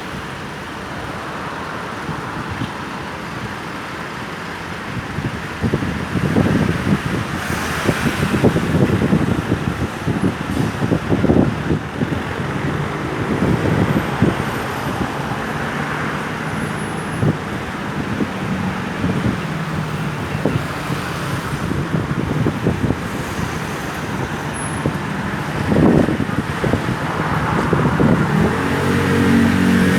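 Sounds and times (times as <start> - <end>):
vehicles passing: 0.0 - 29.9.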